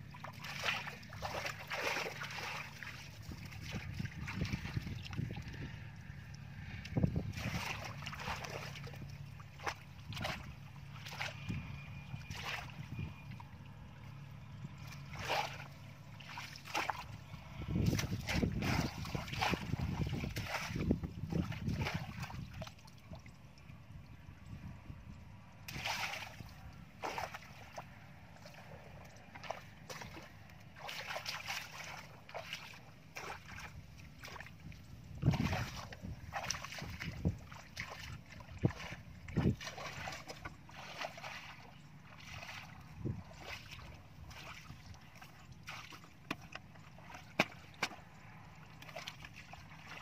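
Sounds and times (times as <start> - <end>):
basket scooping through water: 0.0 - 11.6, 12.2 - 13.0, 14.8 - 23.0, 25.7 - 50.0
wading splashes: 0.0 - 23.9, 25.6 - 50.0.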